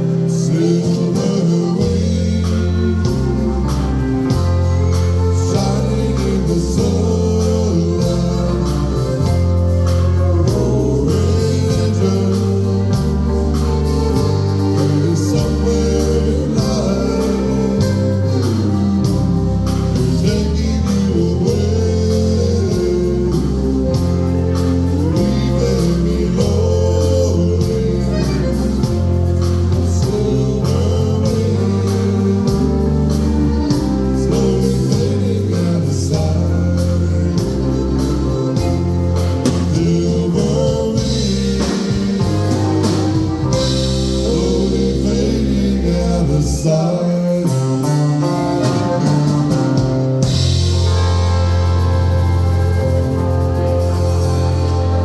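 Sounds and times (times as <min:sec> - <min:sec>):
steady drum beat: 0:00.0 - 0:46.3, 0:47.2 - 0:55.0
bass: 0:00.0 - 0:55.0
live band playing: 0:00.0 - 0:55.0
person singing: 0:00.0 - 0:55.0.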